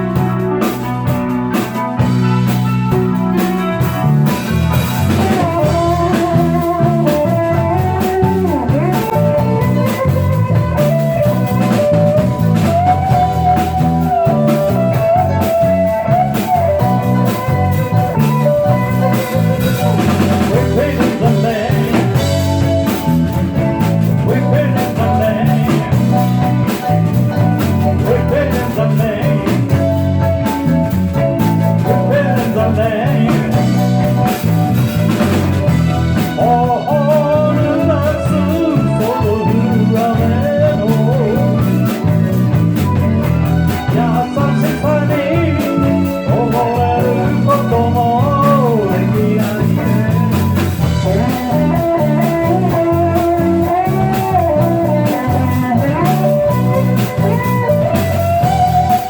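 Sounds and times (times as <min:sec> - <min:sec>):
guitar melody bending and sliding: 0:00.0 - 0:59.0
live band playing blues: 0:00.0 - 0:59.0
low steady bass notes: 0:00.0 - 0:59.0.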